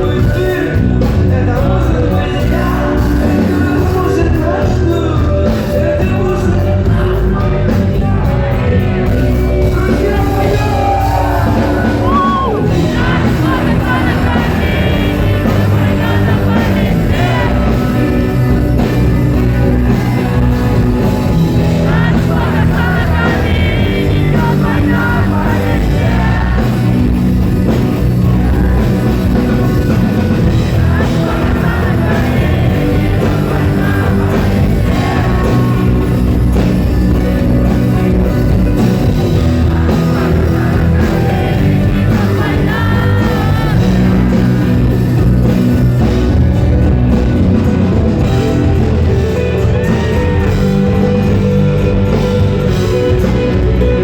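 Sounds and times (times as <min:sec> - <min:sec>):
person singing: 0:00.0 - 0:47.2
live rock band: 0:00.0 - 0:54.0.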